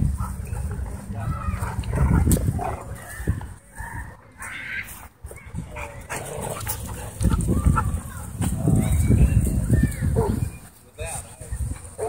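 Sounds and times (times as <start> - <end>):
dogs barking and yipping: 0.0 - 10.8.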